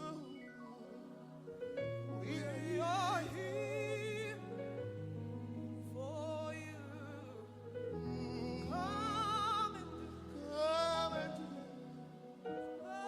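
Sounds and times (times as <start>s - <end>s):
keyboard chords: 0.0s - 13.0s
person singing with vibrato: 0.0s - 13.0s.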